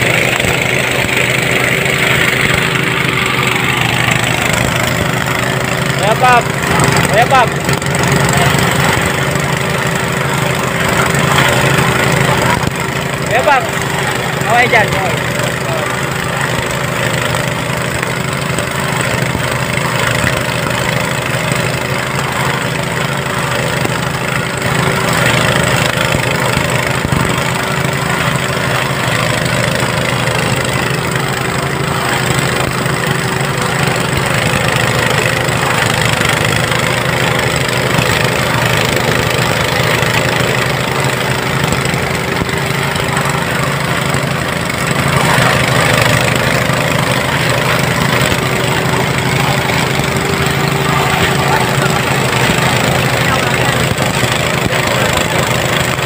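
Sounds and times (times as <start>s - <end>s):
small engine running steadily: 0.0s - 56.0s.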